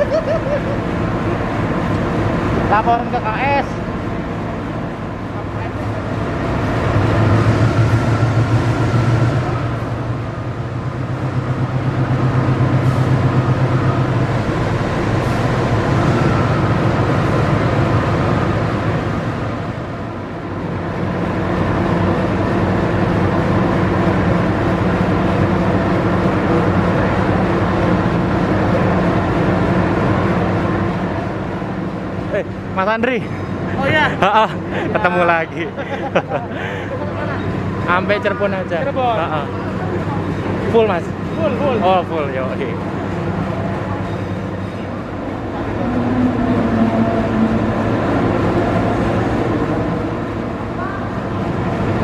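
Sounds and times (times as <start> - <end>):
diesel train engines idling: 0.0 - 52.0.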